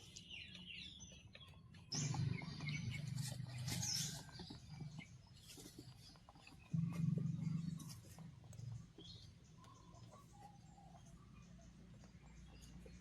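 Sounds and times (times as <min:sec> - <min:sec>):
birds chirping: 0:00.0 - 0:13.0
low steady hum: 0:01.8 - 0:13.0.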